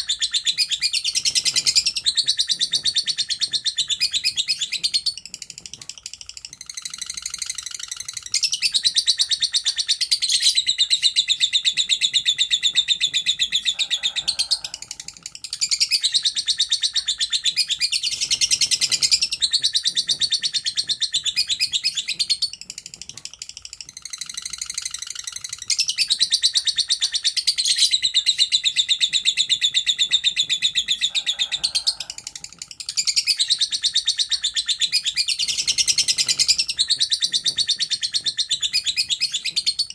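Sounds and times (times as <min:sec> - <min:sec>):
bird chattering high-pitched: 0:00.0 - 0:39.9.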